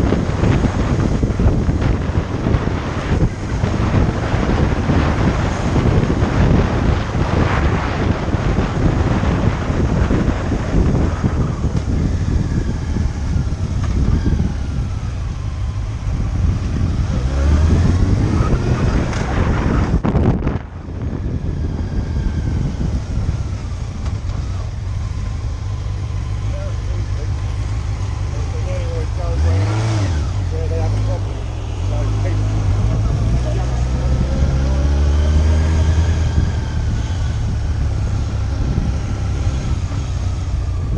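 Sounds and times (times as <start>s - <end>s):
motorcycle engine running: 0.0s - 29.4s, 30.0s - 40.9s
wind buffeting microphone: 0.0s - 40.9s.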